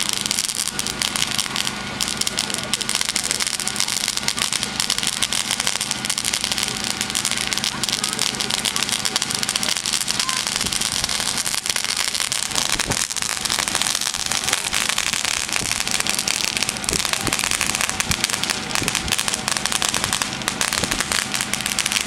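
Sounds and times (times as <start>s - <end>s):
firework fountain crackling: 0.0s - 22.0s
loud firework pops: 0.0s - 22.0s.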